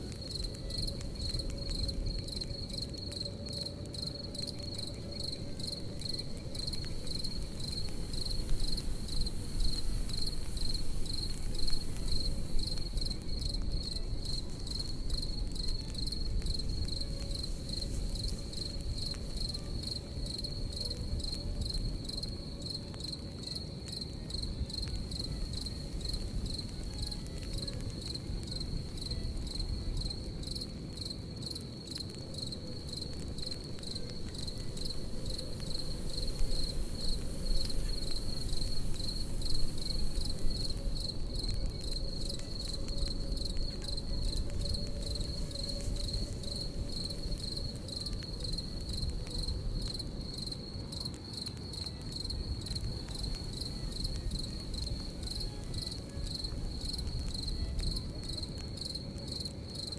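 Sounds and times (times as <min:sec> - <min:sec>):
campfire crackling: 0:00.0 - 0:59.9
crickets chirping: 0:00.0 - 0:59.9.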